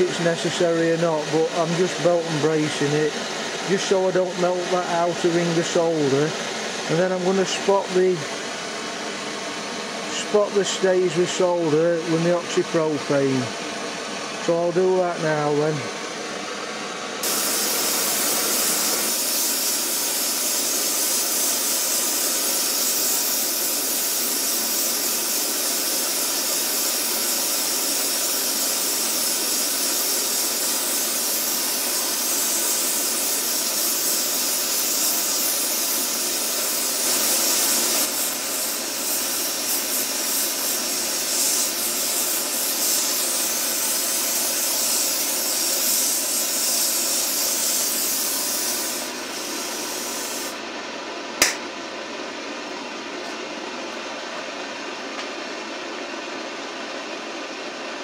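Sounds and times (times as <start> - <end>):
torch burning with steady hiss: 0.0 - 50.7.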